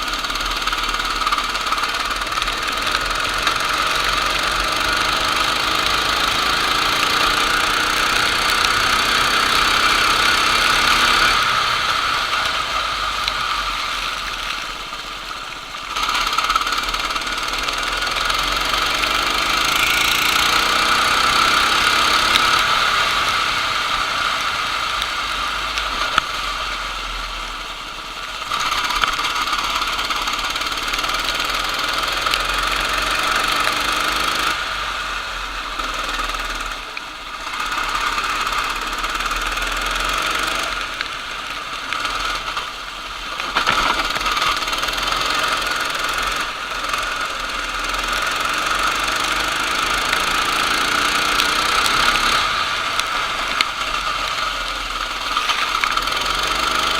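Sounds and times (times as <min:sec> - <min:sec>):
racing kart engine: 0:00.0 - 0:56.9.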